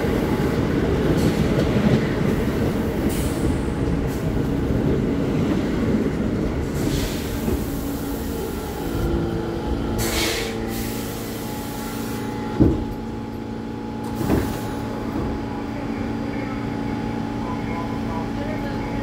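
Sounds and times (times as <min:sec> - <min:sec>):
train doors thudding open: 0:00.0 - 0:15.6
train equipment humming: 0:00.0 - 0:19.0.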